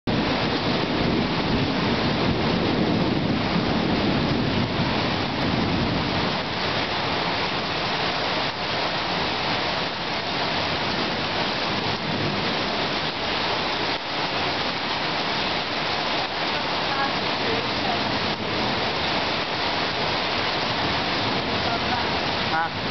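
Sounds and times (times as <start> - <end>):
heavy rain pouring: 0.1 - 22.9
low thunder rumble: 0.1 - 22.9.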